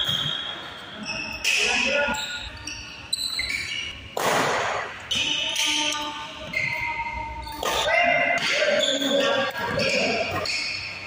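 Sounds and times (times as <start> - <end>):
shoes squeaking on court floor: 0.0 - 4.2, 5.0 - 11.0
voices in a hall: 0.0 - 11.0.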